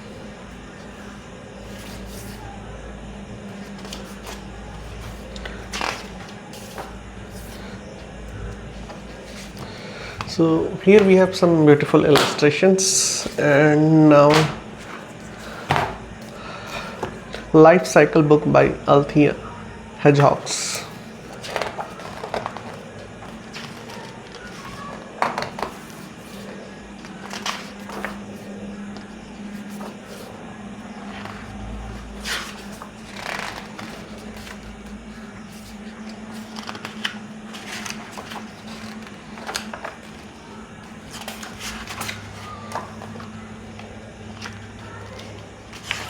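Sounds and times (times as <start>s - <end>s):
book pages turning: 0.0s - 2.6s, 3.4s - 17.5s, 20.1s - 46.0s.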